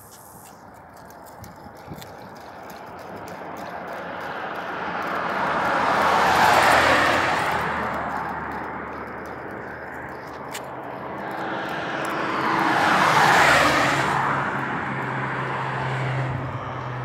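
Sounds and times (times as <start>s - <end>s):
vehicle passing by: 0.2s - 17.0s.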